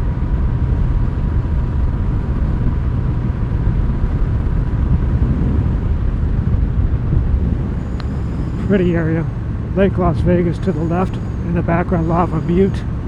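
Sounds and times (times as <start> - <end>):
motorcycle engine running: 0.0 - 13.0
road rumble: 0.0 - 13.0
wind noise: 0.0 - 13.0.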